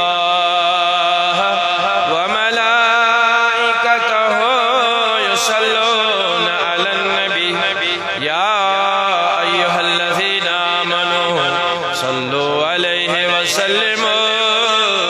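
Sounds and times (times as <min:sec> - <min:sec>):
man chanting through microphone: 0:00.0 - 0:15.0.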